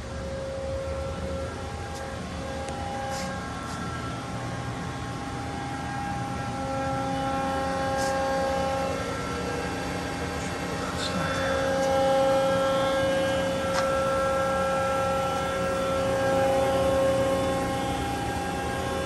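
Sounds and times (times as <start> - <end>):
machinery humming: 0.0 - 19.0
machinery whining tones: 0.0 - 19.0.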